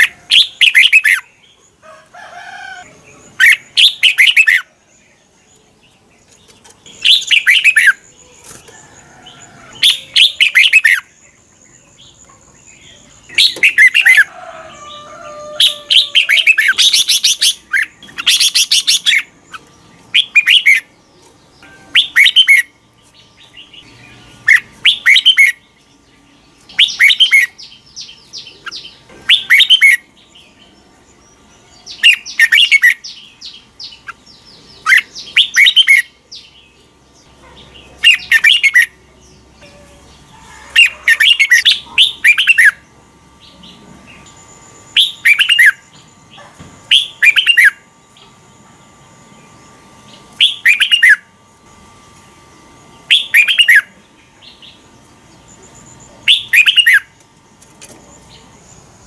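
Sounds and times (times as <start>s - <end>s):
bird singing chattering phrases: 0.0s - 1.8s, 2.8s - 8.8s, 9.7s - 57.3s.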